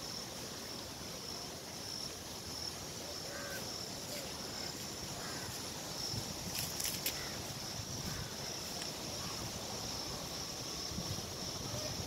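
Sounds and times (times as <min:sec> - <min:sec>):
background hiss: 0:00.0 - 0:12.0
insects chirring: 0:00.0 - 0:12.0.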